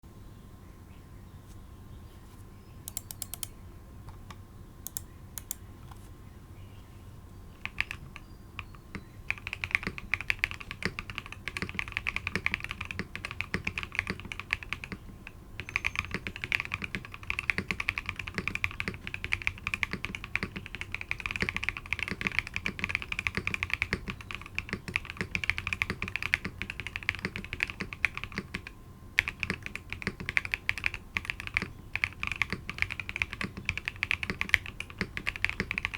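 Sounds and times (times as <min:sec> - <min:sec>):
mechanical keyboard typing: 0:02.9 - 0:03.5, 0:04.8 - 0:05.6, 0:07.6 - 0:35.9.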